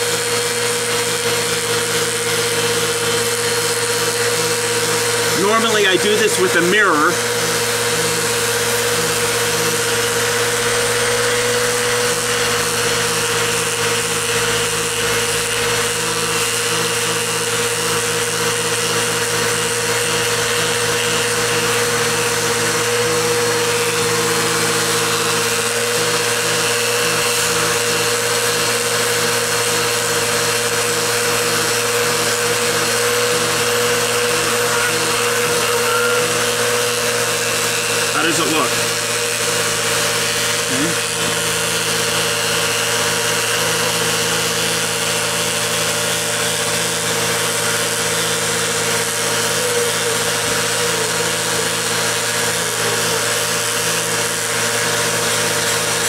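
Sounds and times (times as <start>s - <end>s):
vacuum cleaner running: 0.0s - 56.0s
vacuum hair clipper cutting hair: 0.0s - 56.0s.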